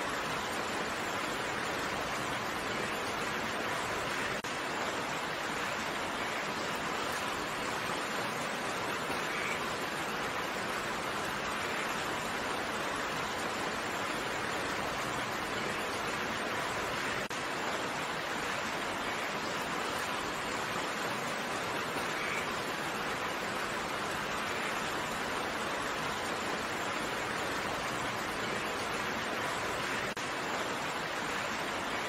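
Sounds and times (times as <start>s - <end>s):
dense rain hiss: 0.0s - 32.0s.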